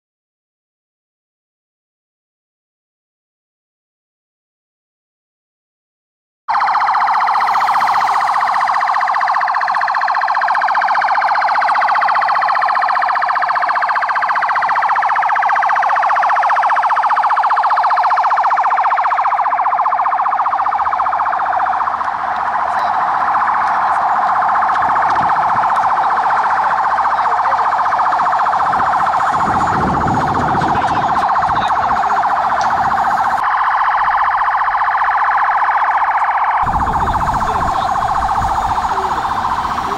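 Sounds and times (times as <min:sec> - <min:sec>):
police sirens wailing: 0:06.5 - 0:39.9.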